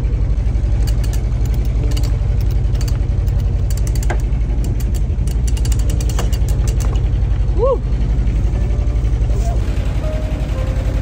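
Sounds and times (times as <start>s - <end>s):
boat engine throbbing: 0.0s - 11.0s.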